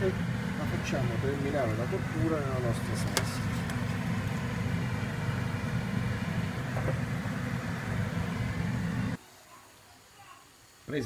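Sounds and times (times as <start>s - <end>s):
kitchen background rumble: 0.0s - 9.2s.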